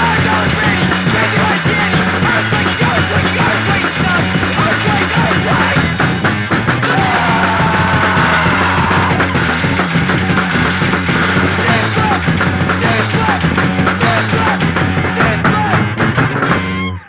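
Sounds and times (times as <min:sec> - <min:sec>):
bass line: 0:00.0 - 0:17.0
drums: 0:00.0 - 0:17.0
punk rock band playing: 0:00.0 - 0:17.0
rock guitar riffs: 0:00.0 - 0:17.0.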